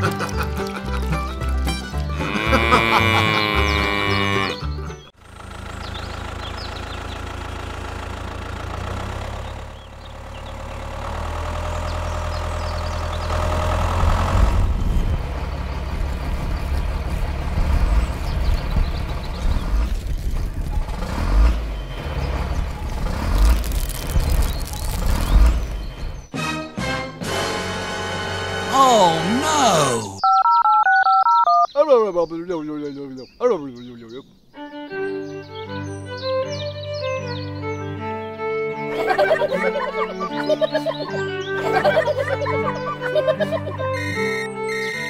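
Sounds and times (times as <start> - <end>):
tractor engine rumbling: 0.0 - 26.3, 27.2 - 45.0.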